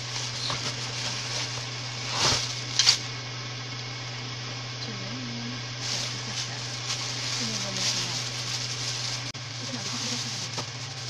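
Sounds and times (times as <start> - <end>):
plastic bag rustling: 0.0 - 3.2, 5.2 - 11.0
steady low hum: 0.0 - 11.0.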